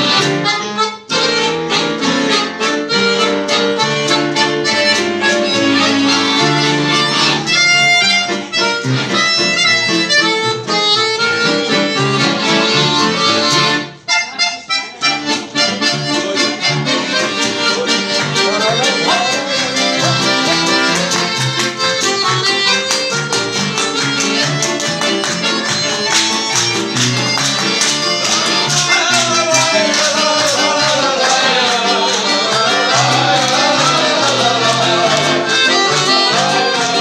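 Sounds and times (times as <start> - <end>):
accordion playing lively tune: 0.0 - 37.0
strummed classical guitar: 0.0 - 37.0.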